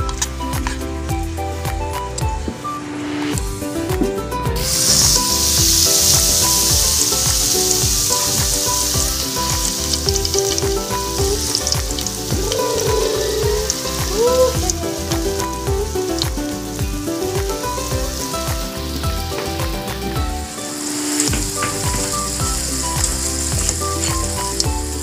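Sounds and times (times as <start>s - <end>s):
background music: 0.0s - 25.0s
food frying in hot oil: 4.6s - 25.0s.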